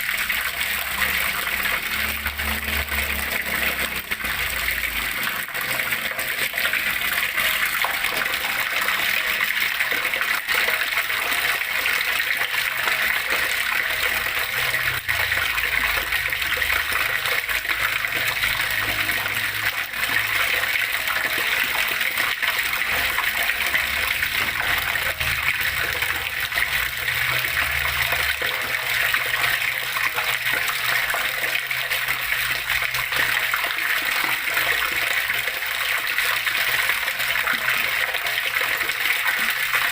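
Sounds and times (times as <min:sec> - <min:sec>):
water splashing and gushing: 0:00.0 - 0:39.9.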